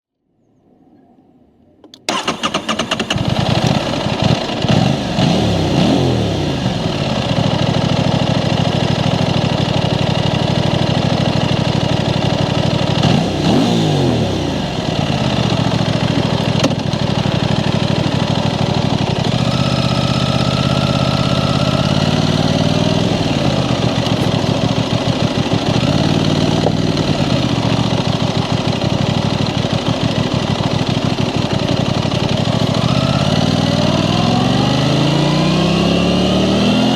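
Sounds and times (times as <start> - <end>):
motorcycle engine idling and revving: 2.1 - 36.9.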